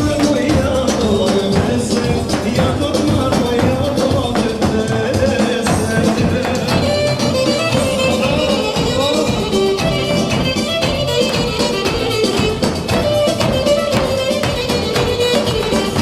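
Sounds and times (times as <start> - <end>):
dance music with percussion beat: 0.0 - 16.0.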